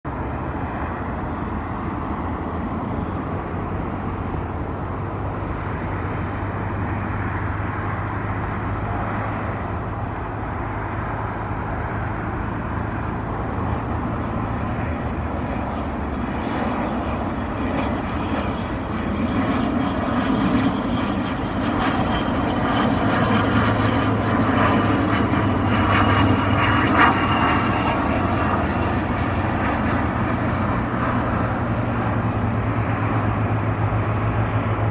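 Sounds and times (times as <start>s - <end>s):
turboprop engines droning: 0.0s - 34.9s.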